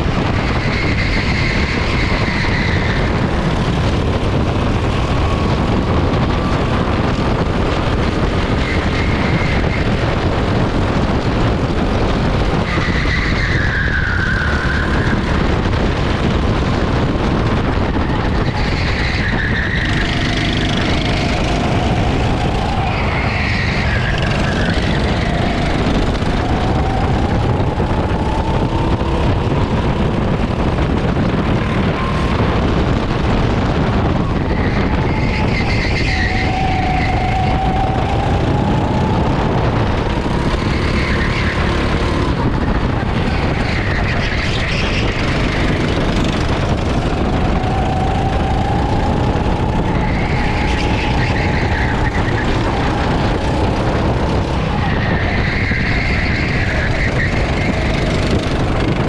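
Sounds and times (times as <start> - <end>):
kart engine revving: 0.0 - 59.0
wind and track noise: 0.0 - 59.0.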